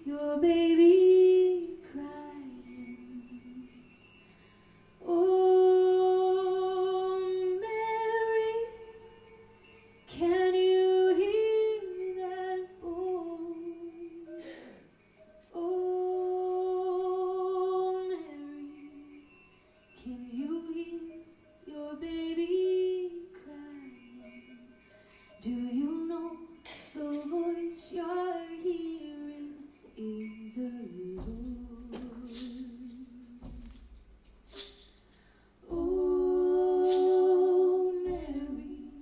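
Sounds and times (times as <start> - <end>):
woman singing with vibrato: 0.0 - 3.8, 5.0 - 9.3, 10.1 - 14.6, 15.5 - 19.1, 20.0 - 24.6, 25.4 - 39.0.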